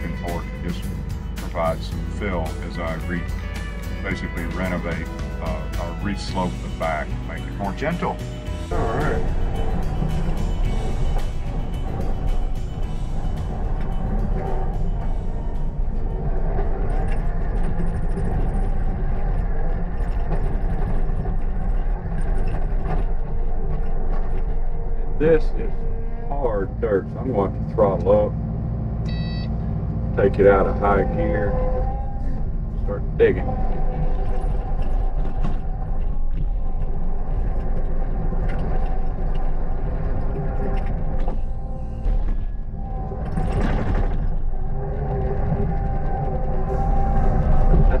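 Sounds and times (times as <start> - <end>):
loader engine running: 0.0 - 48.0.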